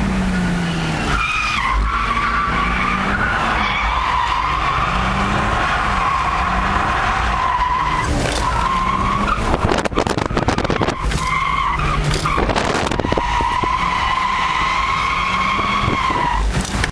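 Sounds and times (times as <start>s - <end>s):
car engine running: 0.0s - 16.9s
tyres squealing: 0.7s - 16.9s.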